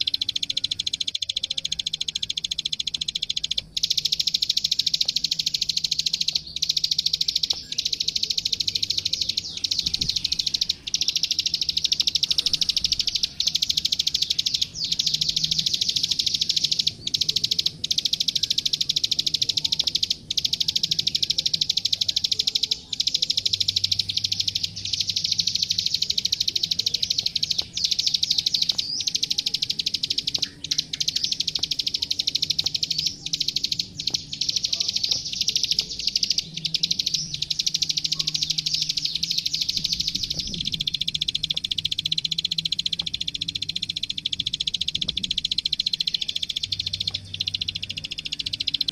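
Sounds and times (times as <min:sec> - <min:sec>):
bird singing rapid clicking notes: 0:00.0 - 0:48.9.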